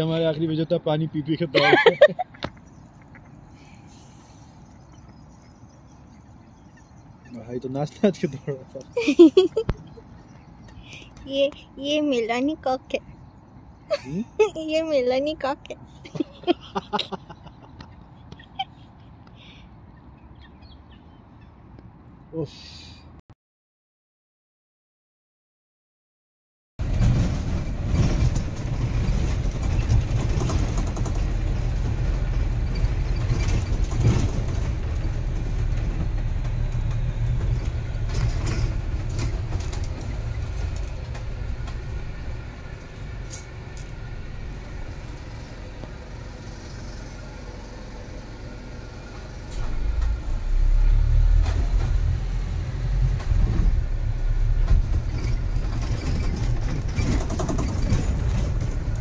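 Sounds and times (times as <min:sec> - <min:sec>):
vehicle rumble: 0:00.0 - 0:23.2, 0:26.8 - 0:59.0.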